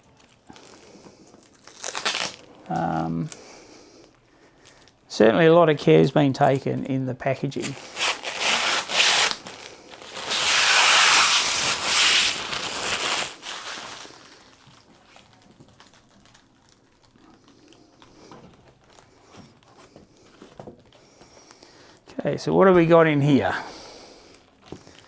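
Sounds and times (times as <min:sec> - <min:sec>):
packaging rustling and tearing: 0:00.0 - 0:03.4, 0:04.0 - 0:22.1, 0:22.8 - 0:25.0.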